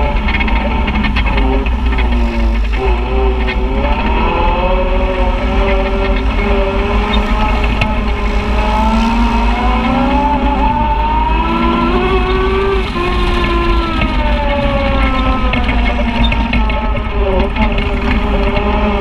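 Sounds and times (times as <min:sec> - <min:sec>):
steady low rumble: 0:00.0 - 0:19.0
utility vehicle engine revving: 0:00.0 - 0:19.0.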